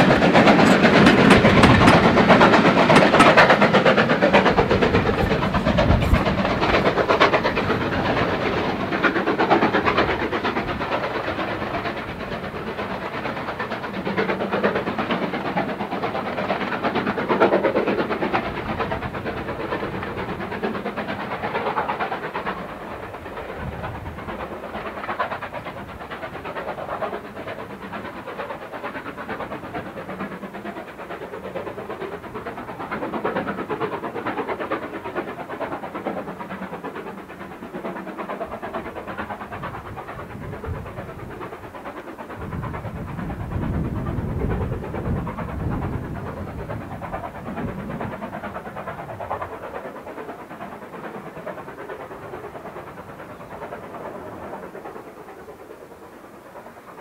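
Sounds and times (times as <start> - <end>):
steam locomotive working hard: 0.0 - 57.0
train coaches rolling on track: 0.0 - 57.0.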